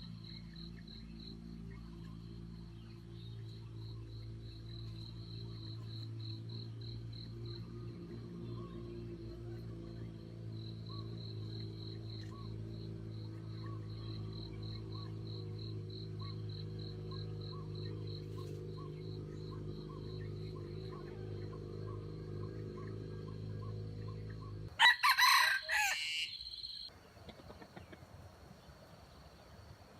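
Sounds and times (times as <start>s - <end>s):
insect chirping: 0.0s - 9.3s, 9.9s - 26.9s
steady low hum: 0.0s - 24.8s.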